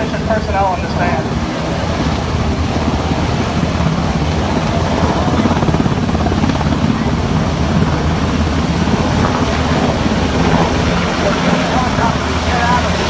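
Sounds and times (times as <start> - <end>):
helicopter engines: 0.0 - 13.0
helicopter rotor blades beating: 0.0 - 13.0.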